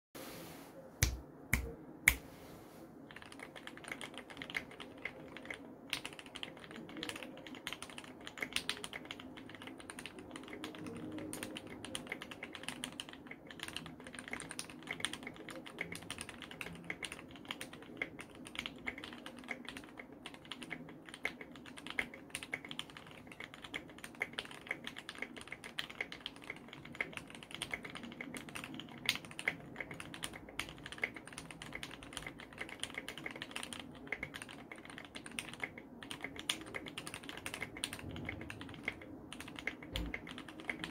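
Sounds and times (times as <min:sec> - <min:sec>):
fast mechanical keyboard typing: 0:03.1 - 0:40.9.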